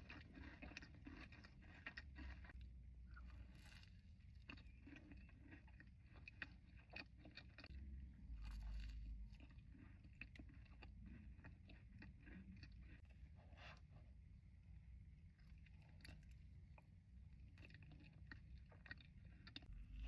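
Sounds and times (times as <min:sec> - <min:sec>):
cookie chewing and crunching: 0:00.0 - 0:20.0.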